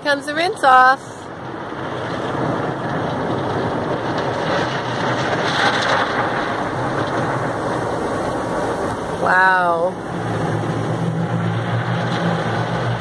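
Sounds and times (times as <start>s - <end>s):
water spraying onto car: 0.0s - 13.0s.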